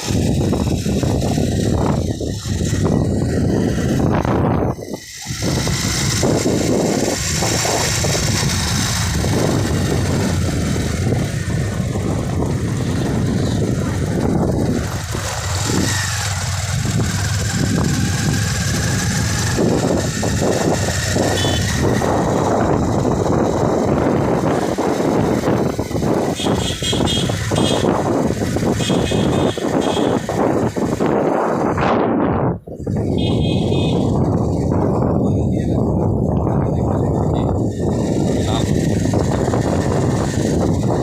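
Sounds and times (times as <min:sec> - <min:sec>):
vehicle engine and road noise: 0:00.0 - 0:41.0
wind noise: 0:00.0 - 0:41.0.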